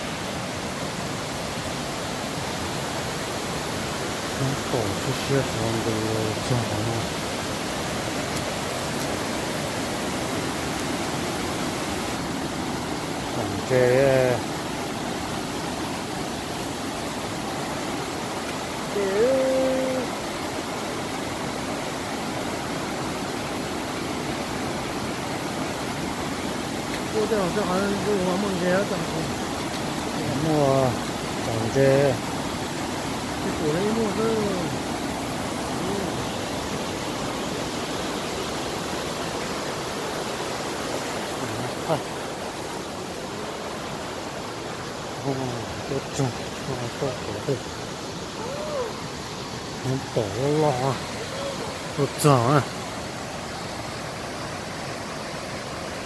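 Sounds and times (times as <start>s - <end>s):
rocky stream rushing: 0.0s - 56.0s.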